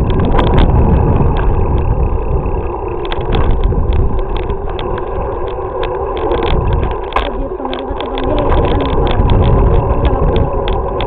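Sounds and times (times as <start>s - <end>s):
bicycle rumbling over concrete: 0.0s - 11.0s
clicks and rattles: 0.0s - 11.0s
wind on microphone: 0.0s - 11.0s.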